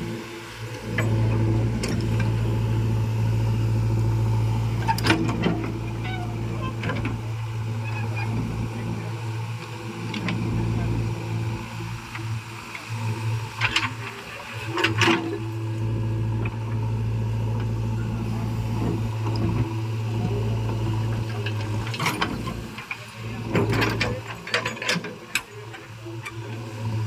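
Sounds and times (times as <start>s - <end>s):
diesel engine running: 0.0s - 24.6s.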